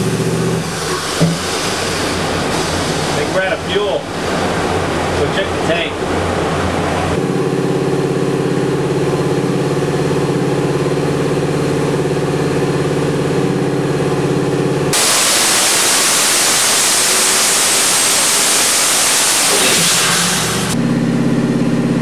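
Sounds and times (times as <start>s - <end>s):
engine revving on dyno: 0.0s - 22.0s.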